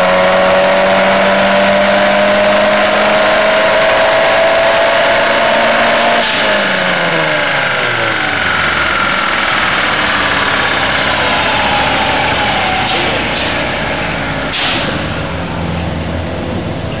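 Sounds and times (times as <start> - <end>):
car engine revving down: 0.0 - 17.0.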